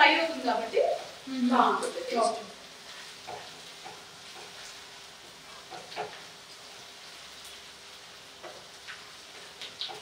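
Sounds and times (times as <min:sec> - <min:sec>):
paste sizzling in oil: 0:00.0 - 0:10.0.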